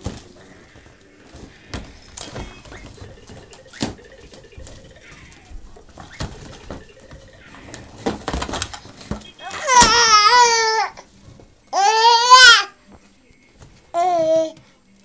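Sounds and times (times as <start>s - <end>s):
balloons bumping and rubbing: 0.0s - 14.6s.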